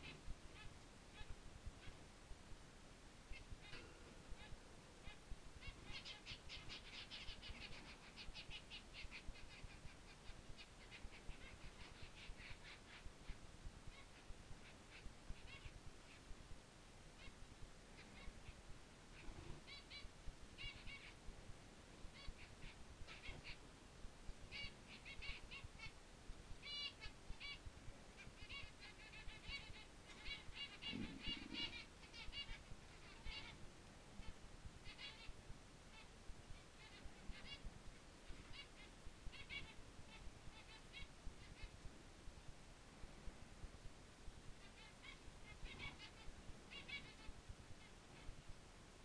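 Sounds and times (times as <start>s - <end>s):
small bird chirping: 0.0s - 2.1s, 3.3s - 16.4s, 17.1s - 21.2s, 22.0s - 23.7s, 24.3s - 26.0s, 26.6s - 41.9s, 44.6s - 48.4s.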